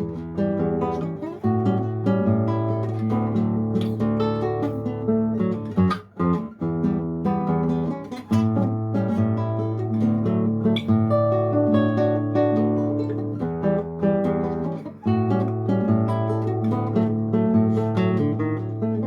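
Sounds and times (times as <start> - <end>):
classical guitar playing: 0.0 - 19.0.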